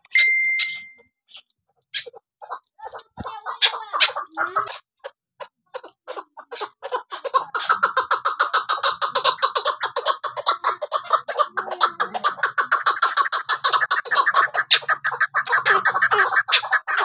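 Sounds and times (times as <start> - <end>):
partridge chuck calls: 0.6 - 17.0.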